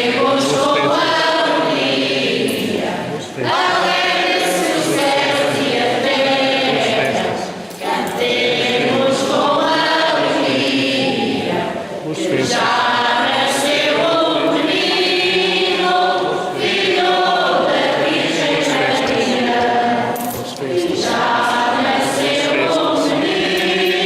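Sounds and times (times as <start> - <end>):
congregation singing a hymn: 0.0 - 24.0.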